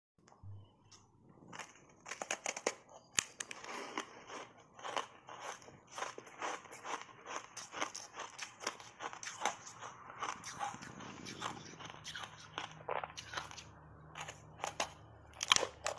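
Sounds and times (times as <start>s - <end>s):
ice crunching between teeth: 1.4s - 15.9s.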